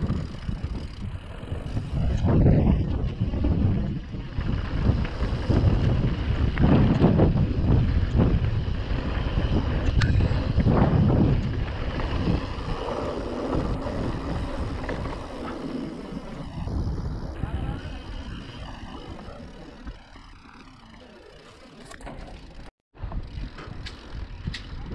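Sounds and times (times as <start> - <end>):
wind buffeting microphone: 0.0 - 20.2.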